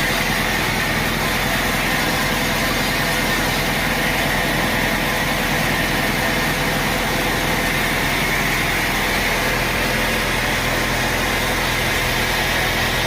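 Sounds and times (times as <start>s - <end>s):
sawmill machinery droning: 0.0s - 13.0s.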